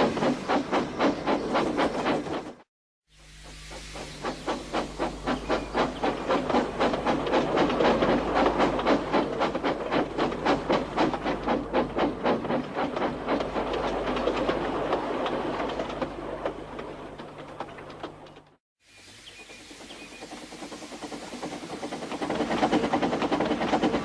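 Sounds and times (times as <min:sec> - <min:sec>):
steam locomotive chuffing: 0:00.0 - 0:18.6, 0:19.4 - 0:24.0.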